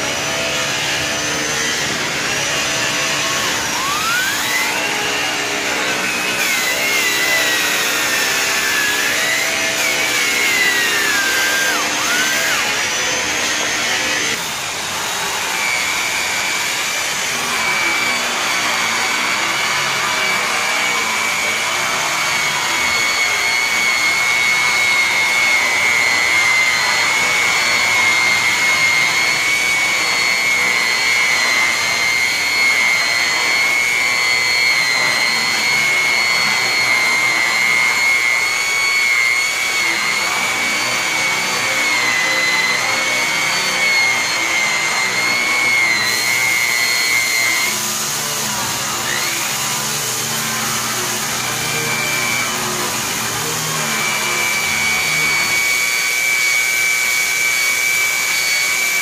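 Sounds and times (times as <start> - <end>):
electric polisher motor whining: 0.0 - 59.0.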